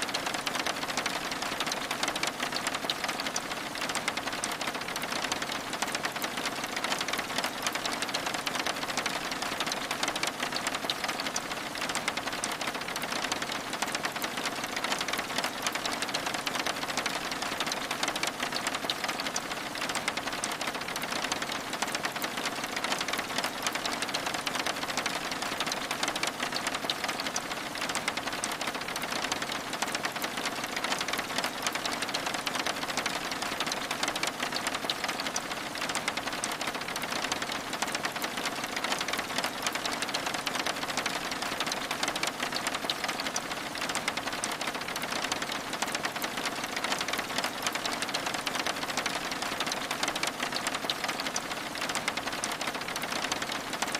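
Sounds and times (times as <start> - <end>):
rain drops on window glass: 0.0 - 53.9.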